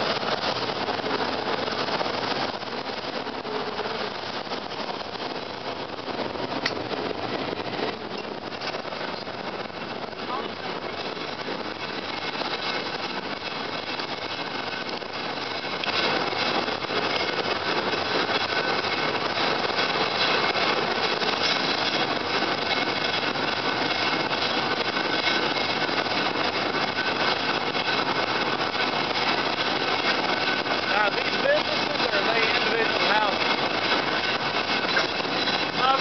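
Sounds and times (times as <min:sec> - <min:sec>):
transit vehicle rumble and rattle: 0:00.0 - 0:36.0.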